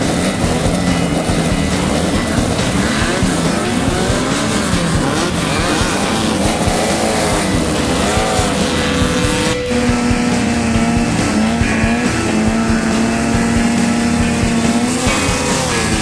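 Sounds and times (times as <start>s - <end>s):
car engine revving under load: 0.0s - 16.0s
knocks and rattles: 0.0s - 16.0s.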